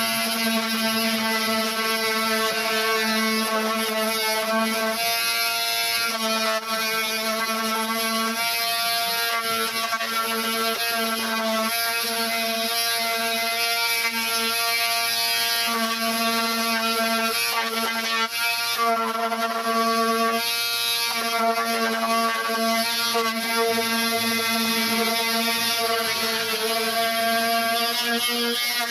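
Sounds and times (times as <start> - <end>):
angle grinder grinding metal: 0.0 - 28.9.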